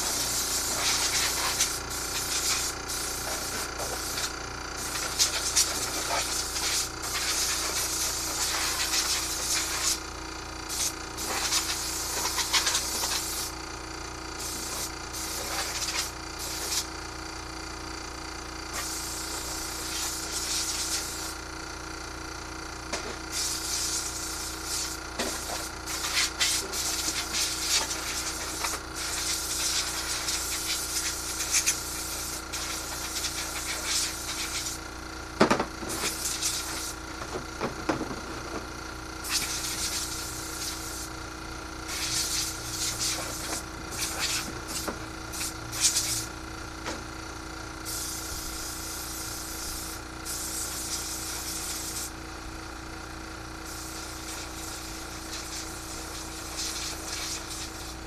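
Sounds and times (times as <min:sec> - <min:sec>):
steady hum: 0:00.0 - 0:52.1.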